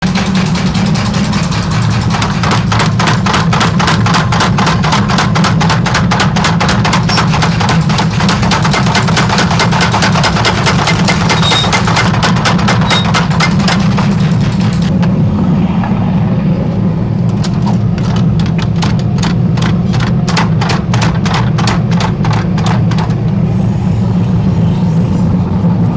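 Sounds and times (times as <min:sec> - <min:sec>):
power hammer strikes: 0:00.0 - 0:15.2, 0:17.3 - 0:23.6
machine low hum: 0:00.0 - 0:25.9.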